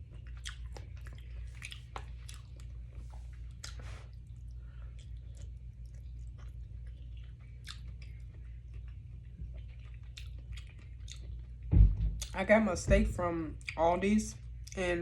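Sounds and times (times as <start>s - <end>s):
person chewing food: 0.0s - 12.4s
steady low hum: 0.0s - 15.0s.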